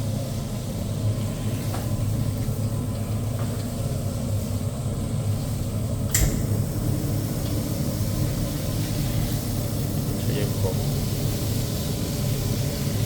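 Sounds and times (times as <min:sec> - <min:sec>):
stir-fry machine humming: 0:00.0 - 0:13.0.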